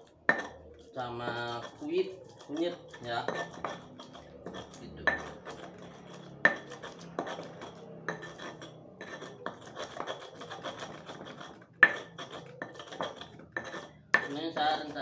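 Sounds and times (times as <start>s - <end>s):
utensil tapping against dish: 0.3s - 15.0s.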